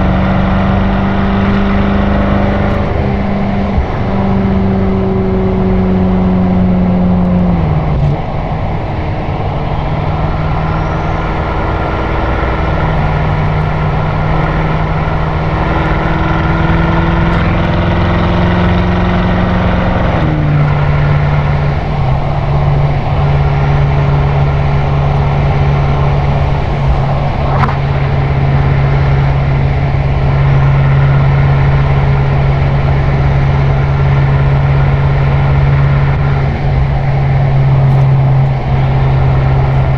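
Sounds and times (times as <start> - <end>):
car exhaust droning: 0.0 - 39.9
road noise: 0.0 - 39.9.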